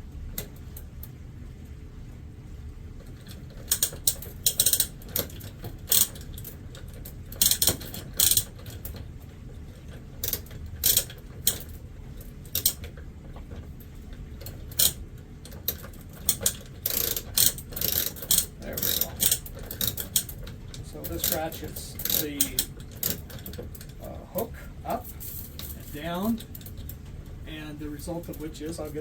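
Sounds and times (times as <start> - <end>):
chain hoist ratchet clicking: 3.1 - 9.0, 9.8 - 13.6, 14.4 - 29.0.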